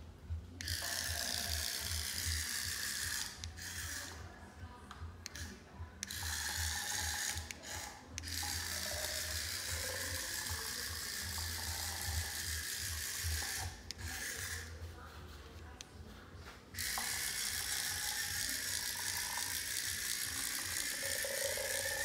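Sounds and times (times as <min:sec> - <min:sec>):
small toy motor whirring: 0:00.6 - 0:04.2, 0:05.3 - 0:14.8, 0:16.8 - 0:22.0.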